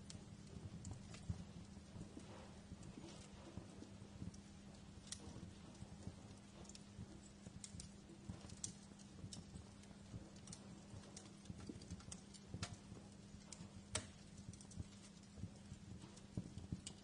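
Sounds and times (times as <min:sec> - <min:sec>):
faint low hum: 0:00.0 - 0:17.0
wood fire crackling: 0:00.0 - 0:17.0.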